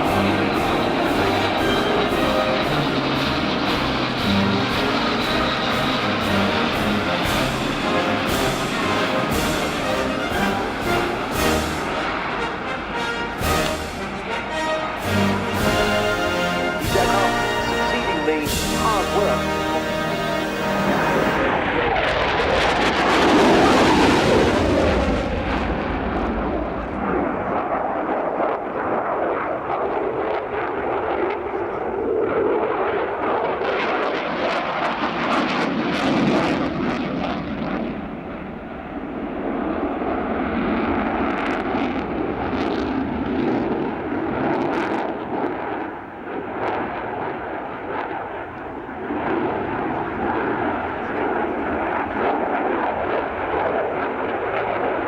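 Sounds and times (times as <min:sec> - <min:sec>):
aircraft engine roar: 0:00.0 - 0:55.0.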